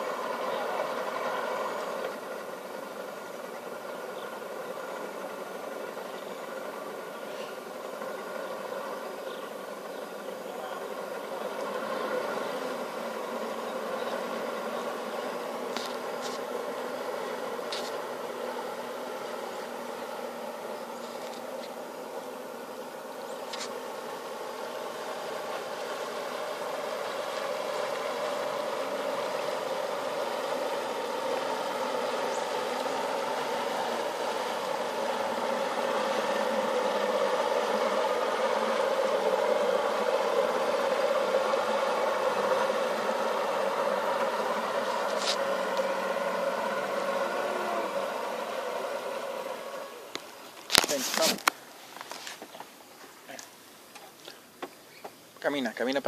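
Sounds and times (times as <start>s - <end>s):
outboard motors idling: 0.0s - 56.0s.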